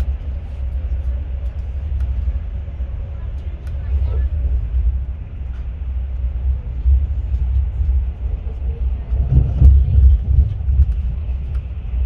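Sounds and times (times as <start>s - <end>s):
train rumbling heard on board: 0.0s - 12.0s.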